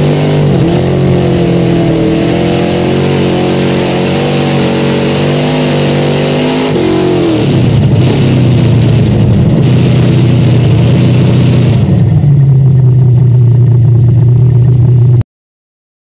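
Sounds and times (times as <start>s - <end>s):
race car engine from cockpit: 0.0s - 15.2s.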